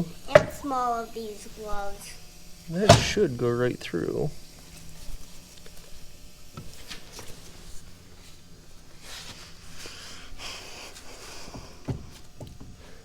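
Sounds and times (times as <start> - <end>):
breathy hiss: 0.0 - 13.0.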